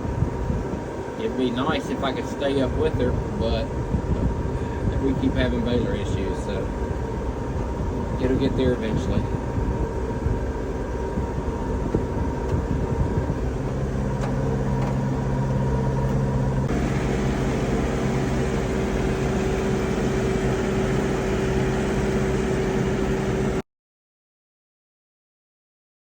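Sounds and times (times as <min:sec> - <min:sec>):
tractor engine running: 0:00.0 - 0:23.6.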